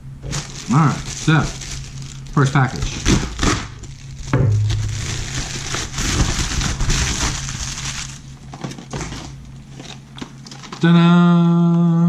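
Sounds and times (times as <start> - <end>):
plastic mailer crinkling: 0.2 - 10.9.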